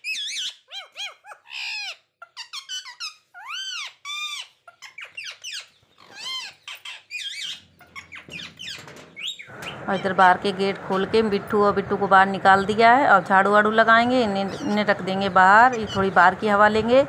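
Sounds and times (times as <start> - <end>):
parrots squawking: 0.0 - 10.4, 13.5 - 17.0.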